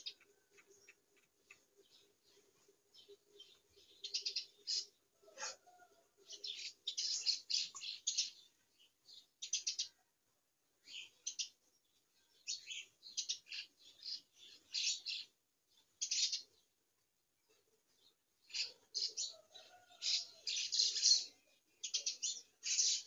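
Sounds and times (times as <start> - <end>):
birds chirping: 0.0 - 10.1, 10.8 - 16.8, 17.4 - 23.0.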